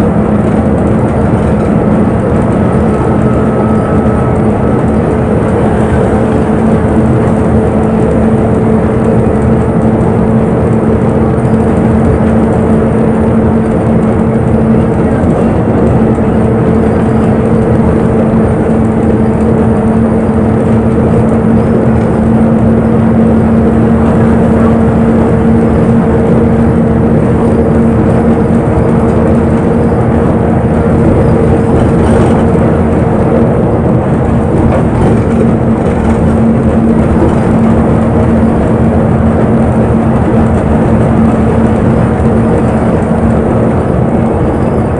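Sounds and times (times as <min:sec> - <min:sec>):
bus engine drone: 0:00.0 - 0:44.9
road and cabin noise: 0:00.0 - 0:44.9.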